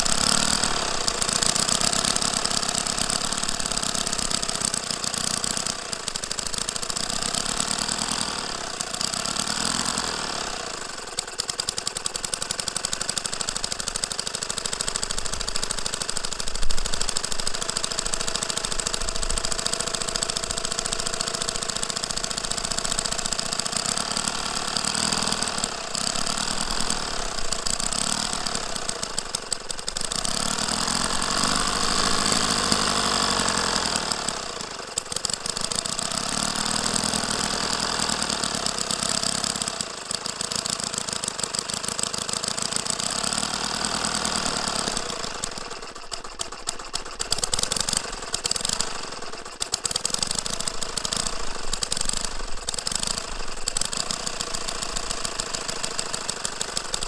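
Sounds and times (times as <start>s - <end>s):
petrol engine revving: 0.0s - 57.0s.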